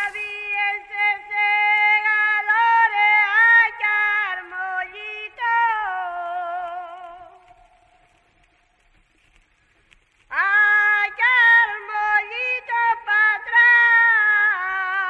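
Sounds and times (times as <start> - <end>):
person singing unaccompanied: 0.0 - 7.8, 10.3 - 15.0.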